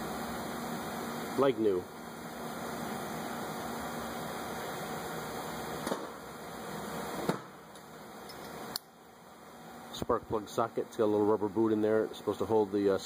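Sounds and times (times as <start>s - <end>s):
fan-like background hiss: 0.0s - 13.0s.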